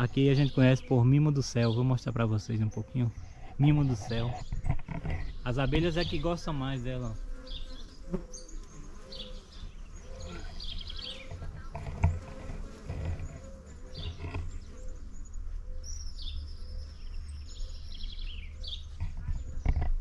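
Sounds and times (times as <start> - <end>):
bees buzzing faintly: 0.0 - 20.0
small birds chirping: 0.0 - 20.0.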